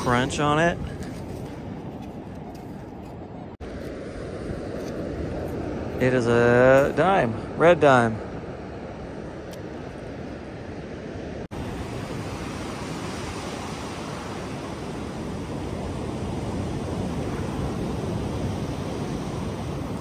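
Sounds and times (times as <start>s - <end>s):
ocean surf washing up beach: 0.0s - 1.6s, 3.7s - 20.0s.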